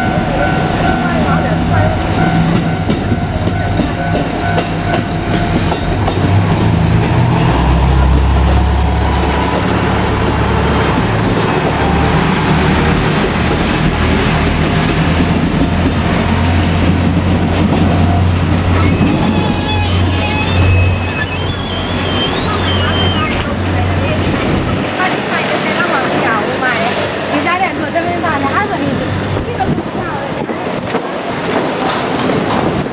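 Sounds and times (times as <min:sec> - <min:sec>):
diesel engine droning: 0:00.0 - 0:30.2
wheels clicking over rail joints: 0:00.4 - 0:32.9.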